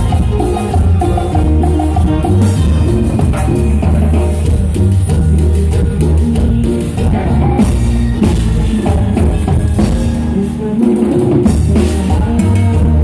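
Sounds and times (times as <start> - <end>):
drums and percussion: 0.0 - 13.0
live band playing loudly: 0.0 - 13.0.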